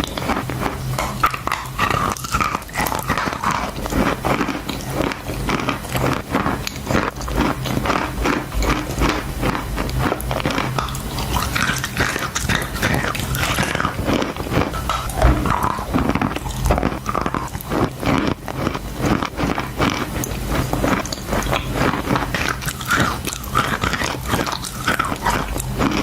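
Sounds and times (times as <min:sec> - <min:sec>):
chewing chalk crunches: 0:00.0 - 0:26.0
low steady hum: 0:00.0 - 0:26.0.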